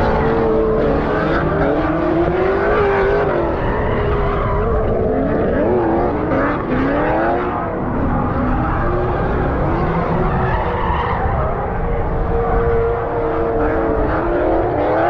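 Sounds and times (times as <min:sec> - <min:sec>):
car engines revving: 0:00.0 - 0:15.0
tires skidding: 0:00.0 - 0:15.0
wind rumble on microphone: 0:00.0 - 0:15.0.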